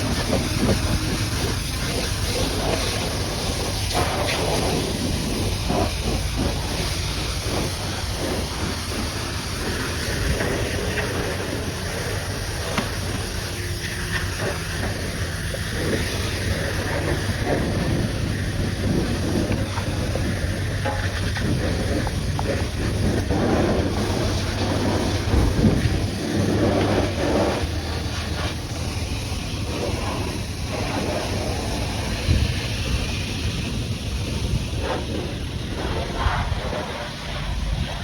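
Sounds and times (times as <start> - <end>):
high-pressure water jet spraying: 0.0 - 38.0
steady low hum: 0.0 - 38.0.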